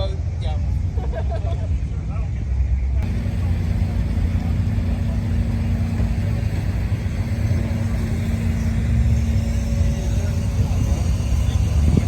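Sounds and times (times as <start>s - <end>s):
road rumble: 0.0s - 12.0s
car engine drone: 1.7s - 12.0s.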